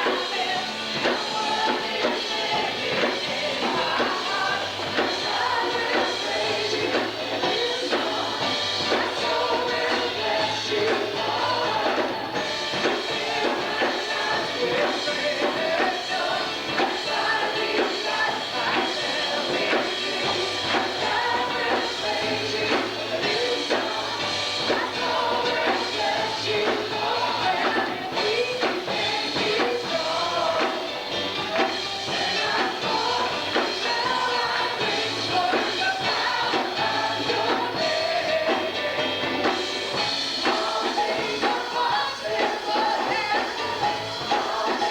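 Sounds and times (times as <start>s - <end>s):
band with steady drum beat: 0.0s - 44.9s
voices singing together: 0.0s - 44.9s.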